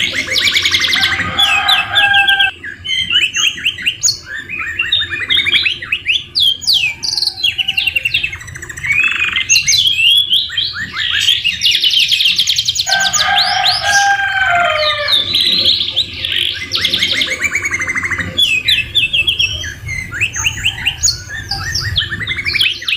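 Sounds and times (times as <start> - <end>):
canary singing trills: 0.0 - 22.9.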